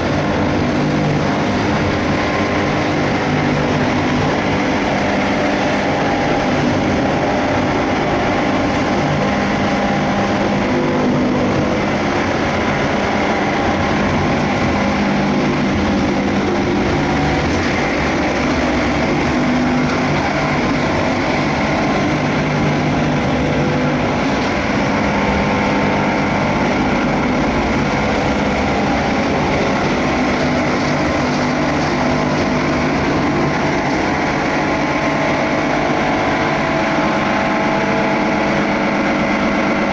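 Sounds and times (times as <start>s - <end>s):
cutting machine running: 0.0s - 39.9s.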